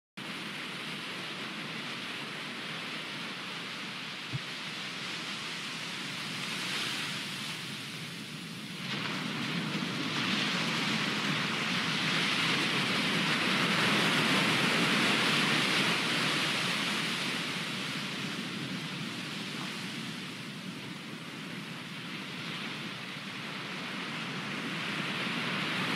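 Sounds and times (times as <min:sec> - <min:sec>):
ocean surf breaking on beach: 0:00.2 - 0:25.9.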